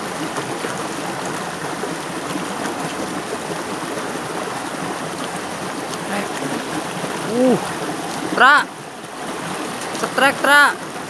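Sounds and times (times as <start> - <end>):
stream water running over rocks: 0.0 - 11.0.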